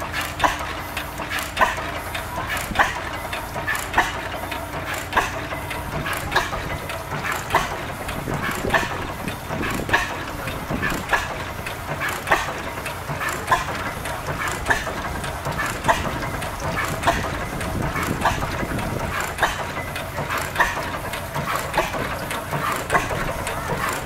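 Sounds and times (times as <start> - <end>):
engine mechanical clicking: 0.0 - 24.0
stationary engine exhaust bangs: 0.0 - 24.0.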